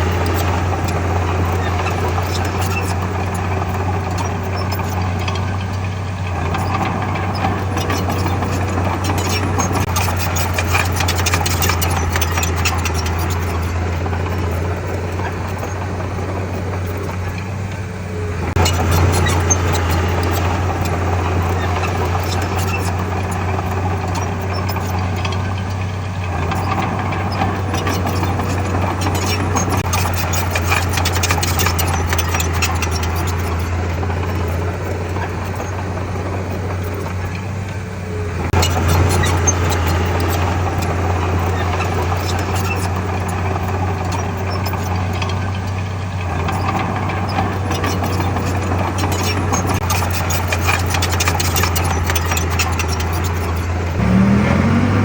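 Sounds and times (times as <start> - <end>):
heavy diesel engine running: 0.0 - 55.0
rattling and clanking: 0.0 - 55.0.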